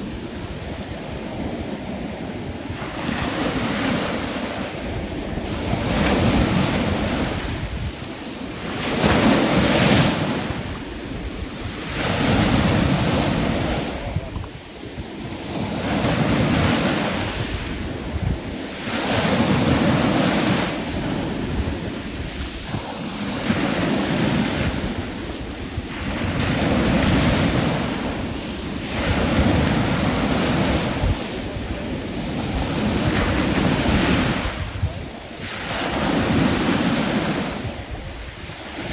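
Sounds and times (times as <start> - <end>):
sea surf washing in: 0.0 - 38.9.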